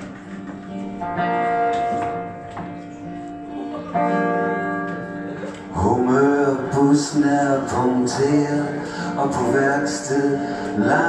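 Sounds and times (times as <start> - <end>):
acoustic guitar chords ringing: 0.0 - 11.0.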